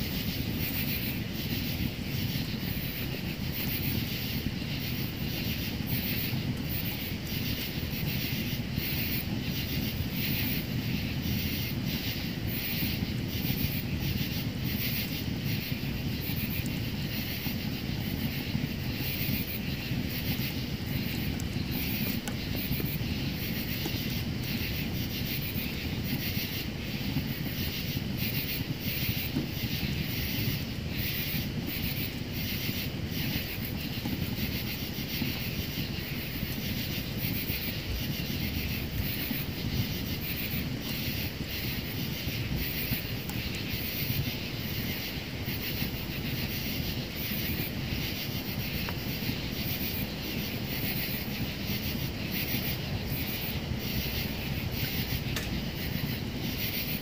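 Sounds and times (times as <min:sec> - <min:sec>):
wood fire burning in stove: 0:00.0 - 0:57.0.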